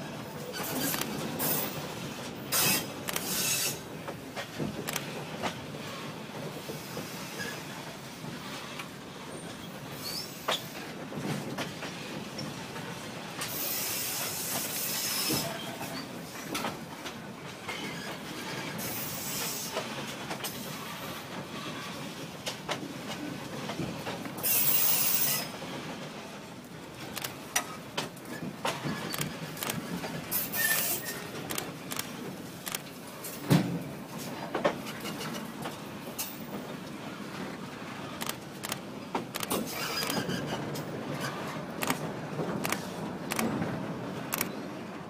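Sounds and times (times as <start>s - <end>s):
train rolling rumble: 0.0s - 45.0s
train wheels clicking and knocking: 0.4s - 44.8s.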